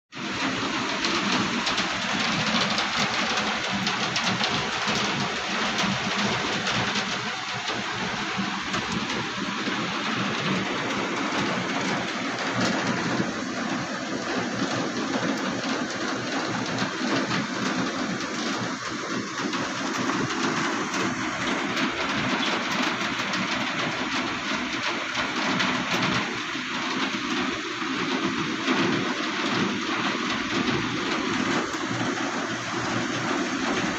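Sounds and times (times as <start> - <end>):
steady rain pattering: 0.1 - 33.9.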